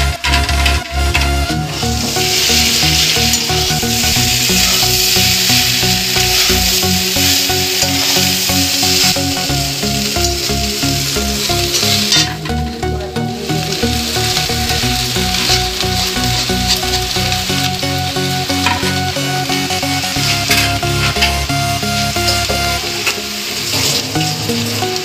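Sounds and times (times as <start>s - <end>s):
background music: 0.0s - 25.0s
noodles sizzling in a wok: 0.0s - 25.0s.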